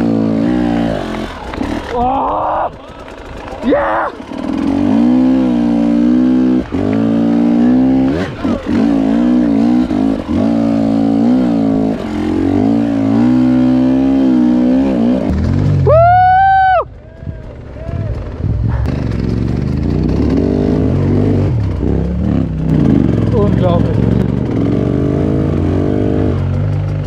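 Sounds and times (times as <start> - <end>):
dirt bike engine revving: 0.0 - 16.8, 17.4 - 27.0.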